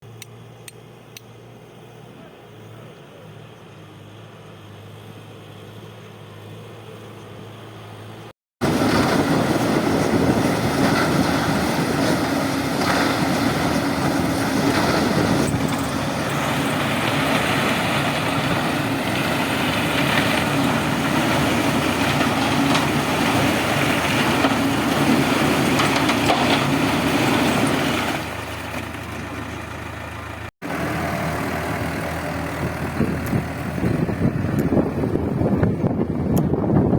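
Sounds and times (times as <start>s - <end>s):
heavy vehicle engine running: 0.0s - 36.9s.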